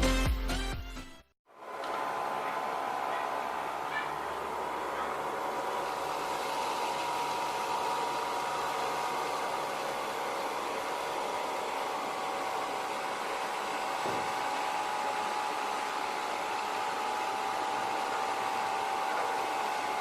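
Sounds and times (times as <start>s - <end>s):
vacuum cleaner motor running: 1.5s - 20.0s.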